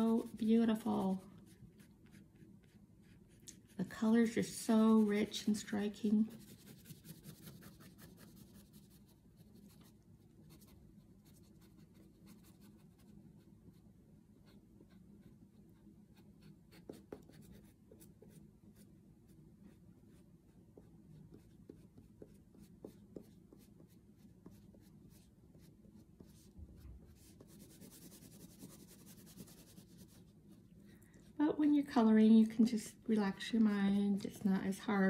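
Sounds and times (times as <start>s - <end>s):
oil pastel scratching on paper: 0.0s - 13.5s, 14.4s - 18.9s, 19.6s - 30.7s.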